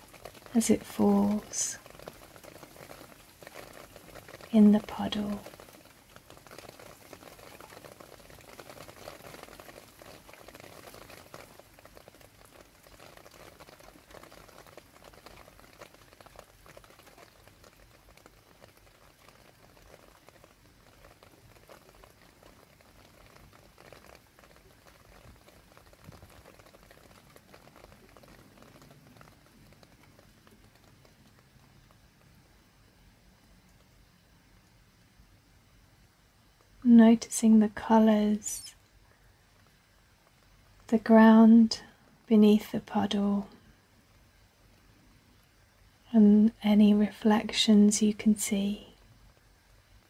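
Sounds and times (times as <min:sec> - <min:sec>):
rain pattering into puddle: 0:00.0 - 0:50.0.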